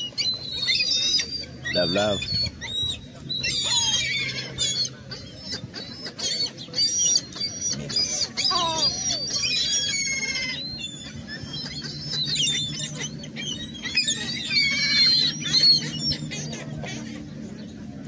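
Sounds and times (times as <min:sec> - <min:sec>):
gulls calling: 0:00.0 - 0:18.0.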